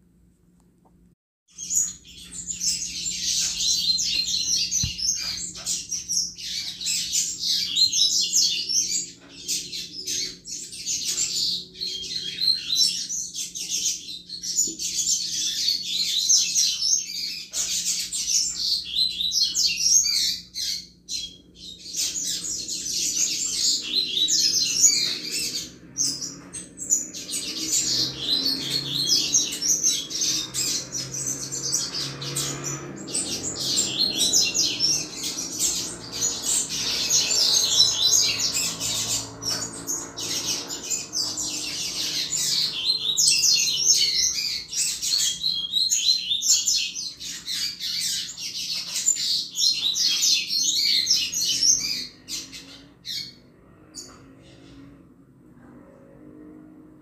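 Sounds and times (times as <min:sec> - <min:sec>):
bird twittering song: 0:01.5 - 0:54.8.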